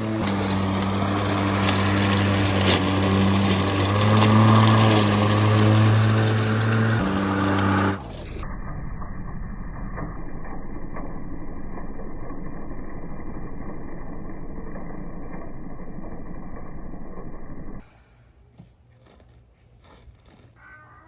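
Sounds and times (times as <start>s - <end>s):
electric lawn mower cutting grass: 0.0s - 17.8s.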